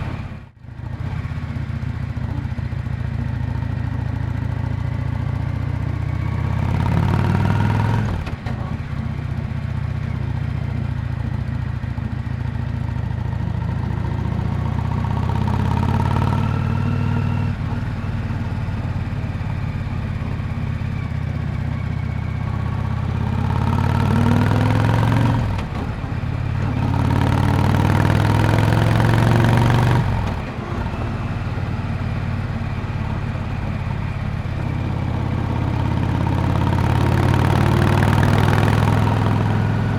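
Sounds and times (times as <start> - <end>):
engine revs climbing and falling: 0.0 - 1.4, 5.0 - 10.8, 13.6 - 39.9
motorcycle exhaust at cruise: 0.0 - 39.9.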